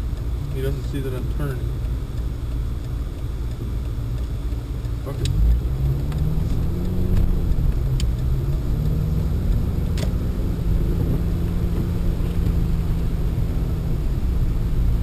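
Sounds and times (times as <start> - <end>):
engine and tyre rumble in car: 0.0 - 15.0.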